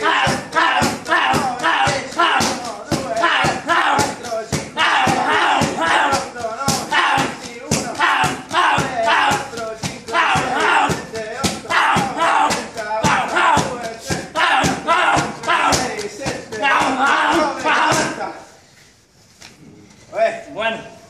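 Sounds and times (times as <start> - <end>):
kicks slapping kick shield: 0.0 - 18.2
voices shouting: 0.0 - 18.3.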